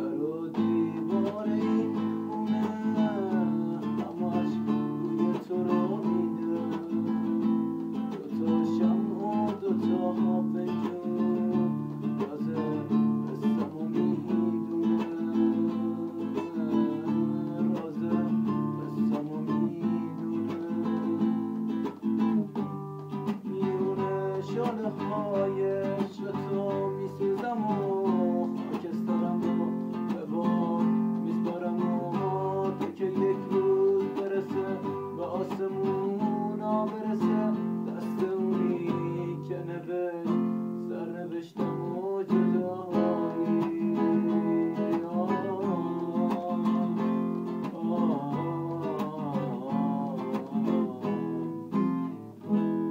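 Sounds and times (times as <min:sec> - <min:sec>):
acoustic guitar strumming: 0:00.0 - 0:52.9
man singing: 0:00.0 - 0:52.9.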